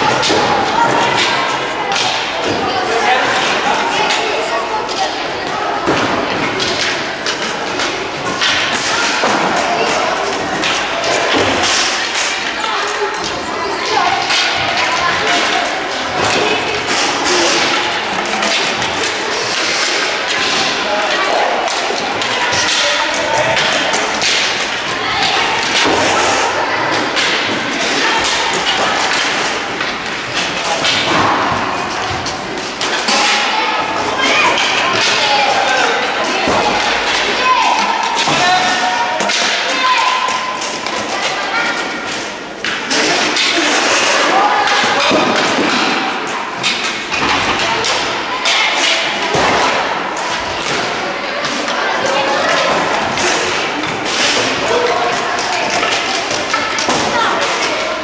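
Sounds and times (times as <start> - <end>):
rumble of skating: 0.0 - 58.0
sticks and ball clacking: 0.0 - 58.0.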